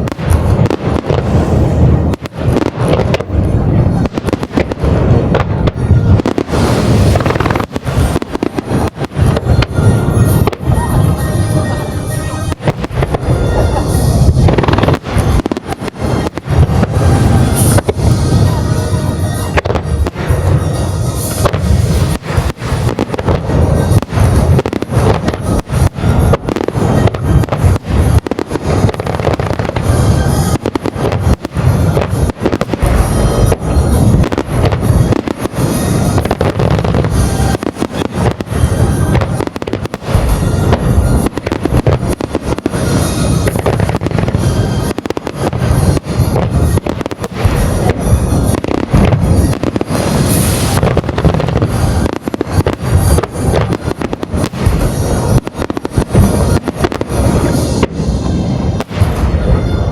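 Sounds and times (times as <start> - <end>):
fireworks bursting: 0.0 - 59.9
music playing: 0.0 - 59.9.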